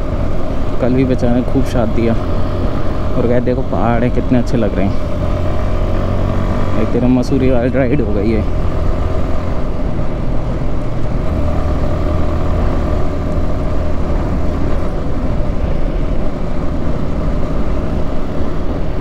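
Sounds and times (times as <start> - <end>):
motorcycle engine drone: 0.0 - 19.0
road and wind noise: 0.0 - 19.0.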